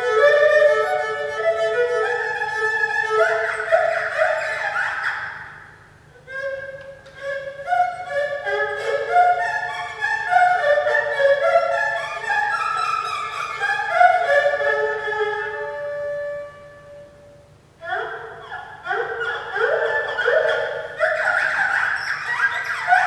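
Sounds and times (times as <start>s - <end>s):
solo erhu playing: 0.0s - 23.0s.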